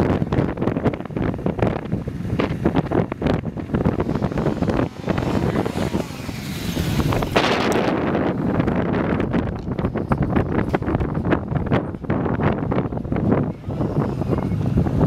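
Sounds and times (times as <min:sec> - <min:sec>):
wind buffeting microphone: 0:00.0 - 0:15.0
motorcycle engine revving: 0:00.1 - 0:11.0, 0:13.0 - 0:15.0.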